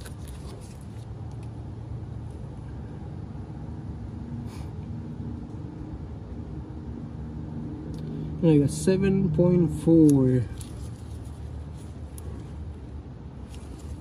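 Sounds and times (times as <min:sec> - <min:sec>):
low rumble with hum: 0:00.0 - 0:14.0.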